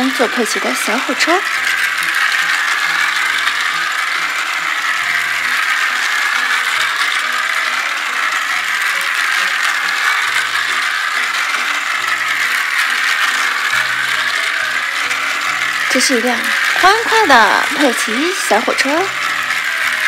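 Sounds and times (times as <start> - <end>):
toy train motor whirring rattle: 0.0 - 20.0.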